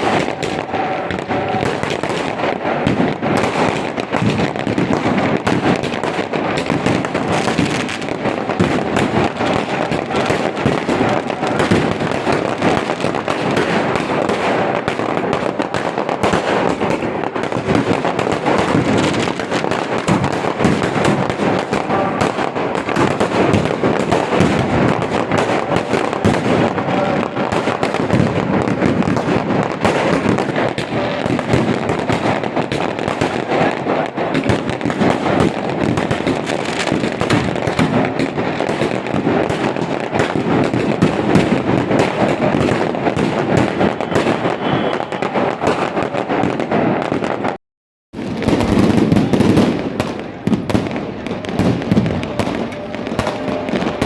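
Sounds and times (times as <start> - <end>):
fireworks cracking and banging: 0.0 - 54.0.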